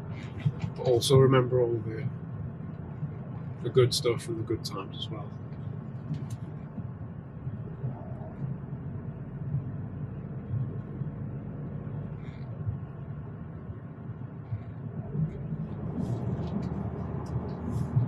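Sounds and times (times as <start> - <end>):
road rumble inside moving car: 0.0 - 18.0.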